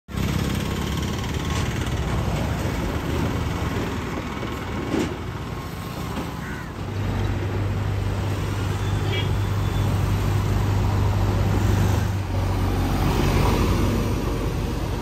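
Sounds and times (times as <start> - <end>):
low rumble of engines: 0.1 - 15.0
road traffic hum: 0.1 - 15.0.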